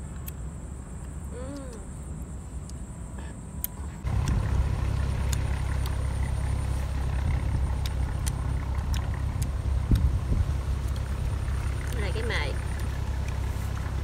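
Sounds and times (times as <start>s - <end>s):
low rumble: 1.0s - 14.0s.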